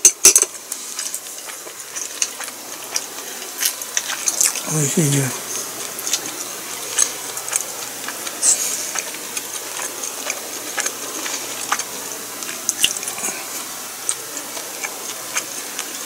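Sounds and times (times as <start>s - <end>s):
wet chewing and mouth noises: 0.5s - 16.0s.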